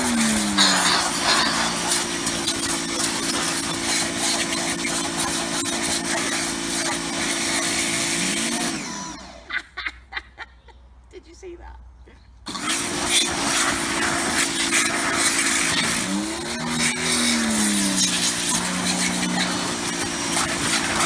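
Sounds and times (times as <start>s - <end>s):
water jet spraying on plastic: 0.0s - 9.0s, 12.5s - 21.0s
pressure washer motor humming: 0.0s - 9.6s, 12.5s - 21.0s.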